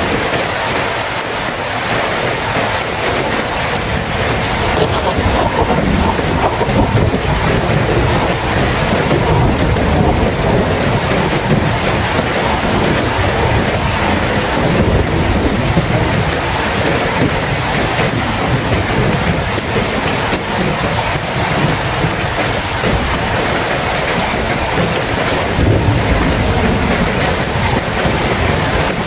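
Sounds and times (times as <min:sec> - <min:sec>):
steady rain falling: 0:00.0 - 0:29.0
thunder rumbling: 0:02.4 - 0:29.0.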